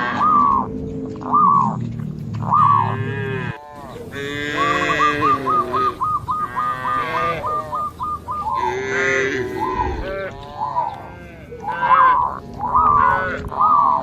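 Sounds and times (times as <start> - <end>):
cattle mooing: 0.0 - 1.8, 2.4 - 14.0.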